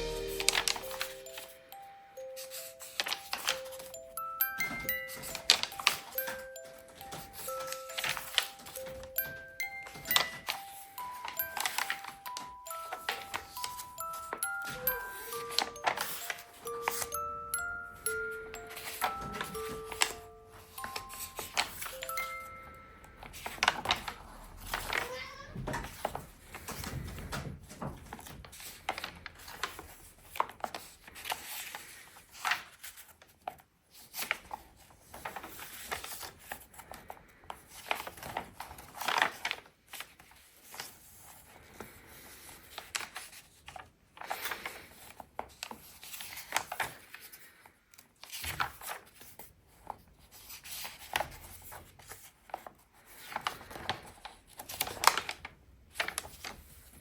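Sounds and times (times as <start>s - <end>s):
paper pages rustling: 0.0s - 25.1s, 25.8s - 57.0s.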